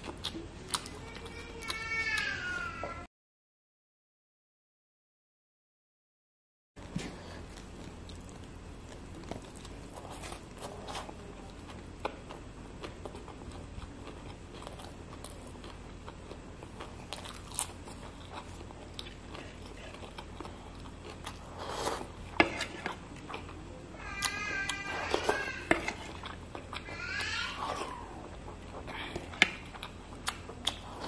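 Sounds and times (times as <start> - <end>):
person chewing food: 0.0 - 2.2, 6.8 - 31.0.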